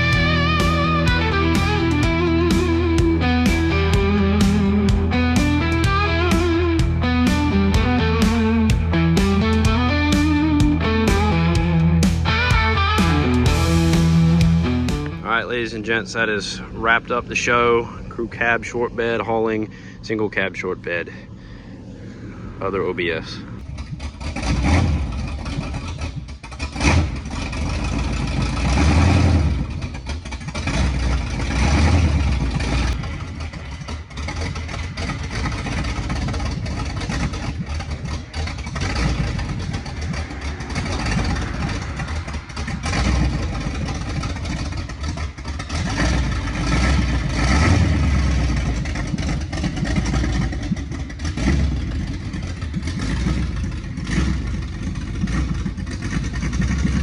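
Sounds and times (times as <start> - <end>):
pickup trucks revving driving past: 0.0 - 57.0.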